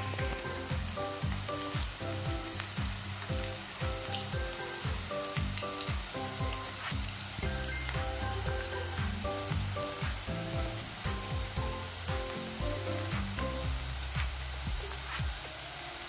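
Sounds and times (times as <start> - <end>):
background music with steady beat: 0.0 - 15.6
fries sizzling in hot oil: 0.0 - 16.0.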